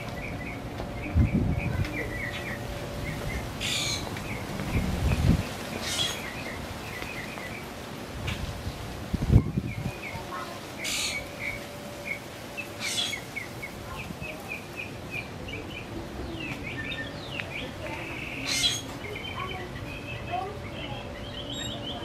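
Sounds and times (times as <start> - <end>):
downward-sweeping bird calls: 0.0 - 8.5, 9.4 - 22.0
small birds chirping: 0.0 - 22.0.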